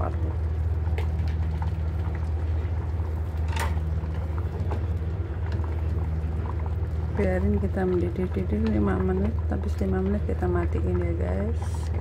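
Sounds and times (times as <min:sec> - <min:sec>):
congee bubbling and popping: 0:00.0 - 0:12.0
steady low hum: 0:00.0 - 0:12.0.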